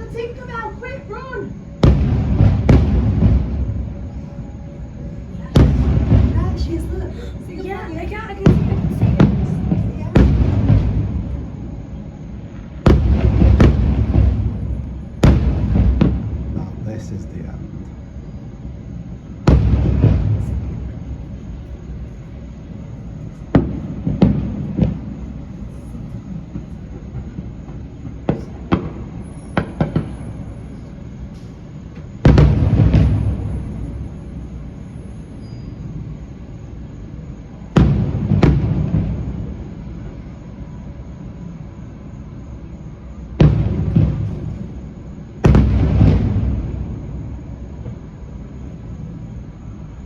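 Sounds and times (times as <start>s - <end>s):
fireworks bursting with rumble: 0.0s - 49.6s.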